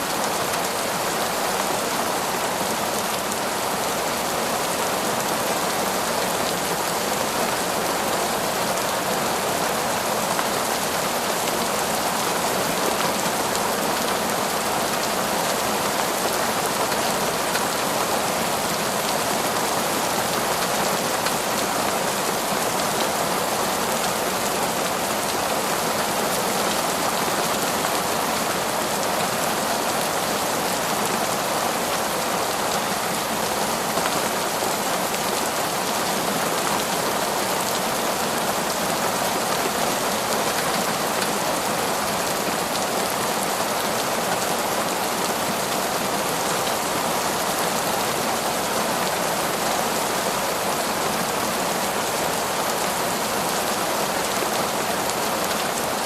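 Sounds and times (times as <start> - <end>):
heavy rain on a forest: 0.0 - 56.0.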